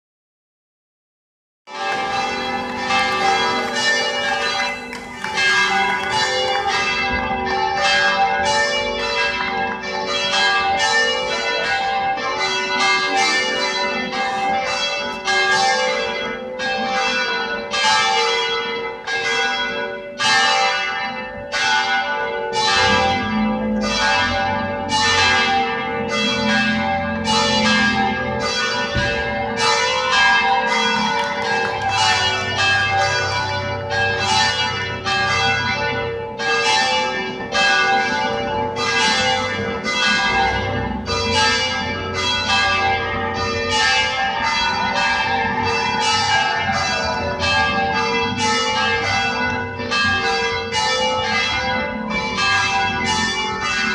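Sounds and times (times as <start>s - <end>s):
church bells pealing: 1.7s - 53.9s.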